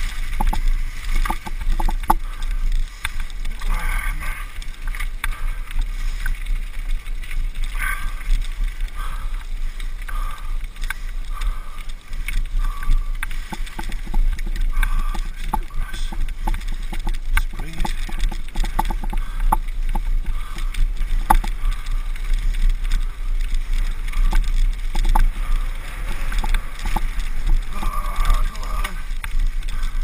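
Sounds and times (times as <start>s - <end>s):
bicycle rattling on bumpy track: 0.0s - 30.0s
wind rumble on microphone: 0.0s - 30.0s.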